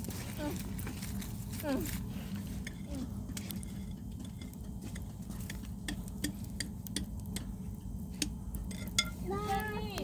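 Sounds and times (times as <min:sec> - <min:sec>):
low steady rumble: 0:00.0 - 0:10.0
wood fire crackling: 0:00.0 - 0:10.0.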